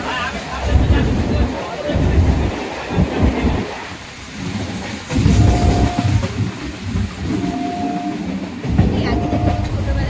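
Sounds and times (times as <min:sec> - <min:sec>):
train rumbling on rails: 0:00.0 - 0:10.0
wheels clattering on track: 0:00.0 - 0:10.0.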